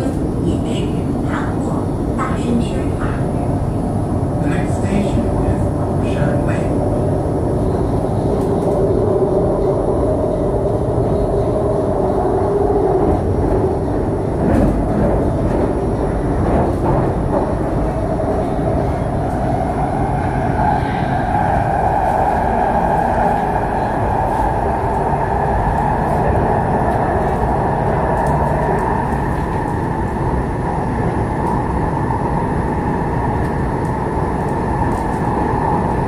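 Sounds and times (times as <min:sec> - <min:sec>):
train wheels rumbling on rail: 0:00.0 - 0:36.0
train whine: 0:00.0 - 0:36.0.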